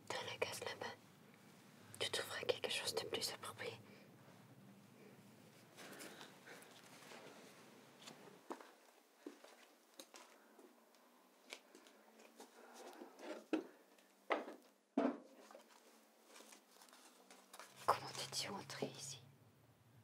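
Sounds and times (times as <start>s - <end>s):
faint rustling of cloth: 0.3s - 14.2s, 15.3s - 19.1s.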